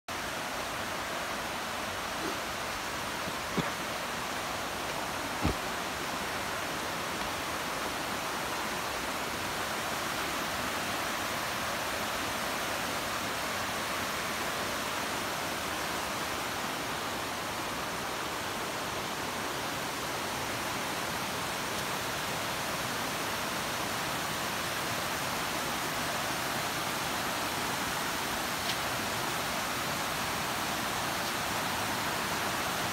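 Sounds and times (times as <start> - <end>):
creek water rushing: 0.1 - 32.9.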